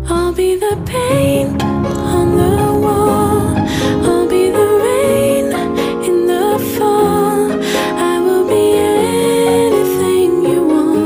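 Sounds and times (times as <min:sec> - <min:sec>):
gentle soft song: 0:00.0 - 0:11.0.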